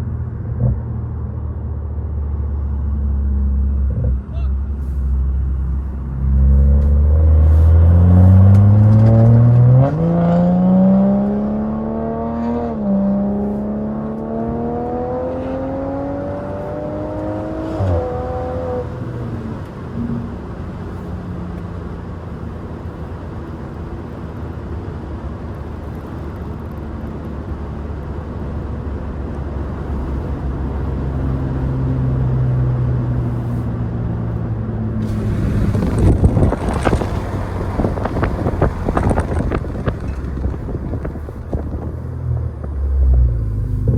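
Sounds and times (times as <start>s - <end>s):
exhaust cruising drone: 0.0s - 43.9s
car engine accelerating hard: 0.5s - 43.9s.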